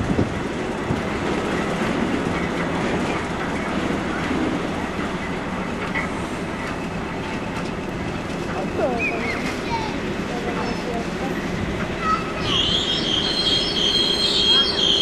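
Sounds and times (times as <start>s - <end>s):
diesel locomotive idling: 0.0s - 15.0s.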